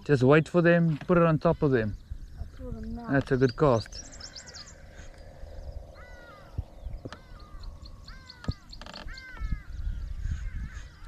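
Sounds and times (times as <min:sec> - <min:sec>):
bird harsh calls: 0:00.0 - 0:11.0.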